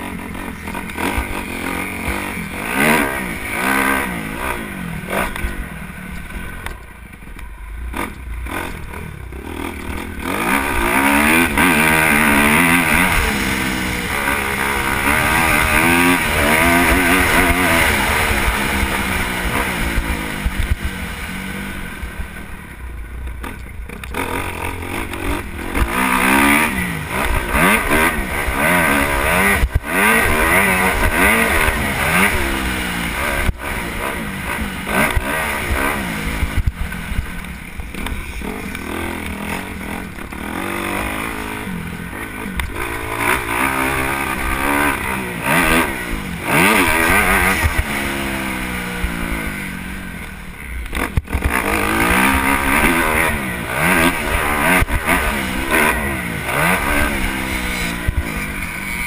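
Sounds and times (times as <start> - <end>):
dirt bike engine revving: 0.0 - 6.8, 7.7 - 59.0.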